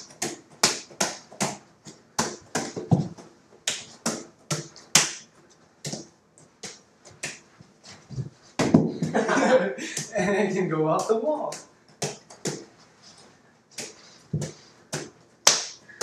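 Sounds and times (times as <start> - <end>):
hands slapping a ball: 0.0 - 10.2, 11.0 - 16.0.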